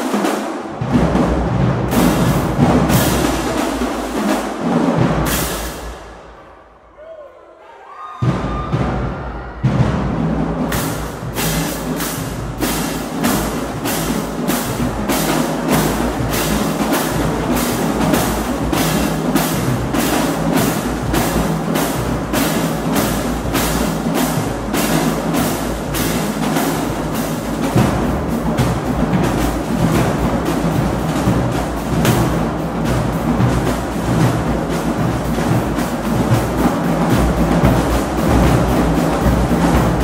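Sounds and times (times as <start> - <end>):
marching drumline playing: 0.0 - 6.5, 8.2 - 40.0.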